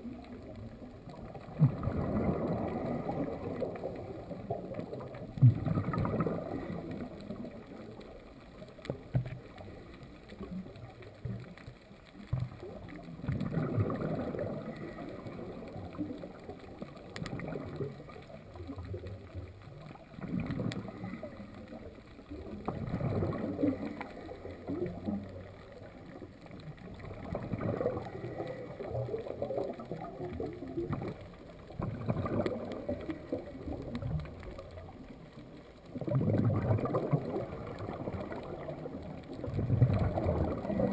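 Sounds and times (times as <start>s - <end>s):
underwater exhaust bubbles: 0.0s - 40.9s.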